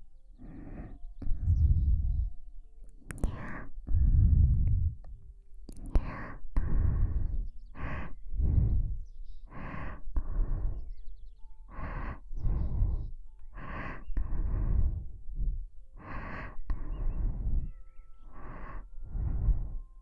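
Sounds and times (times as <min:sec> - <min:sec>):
close breathing: 0:00.0 - 0:20.0.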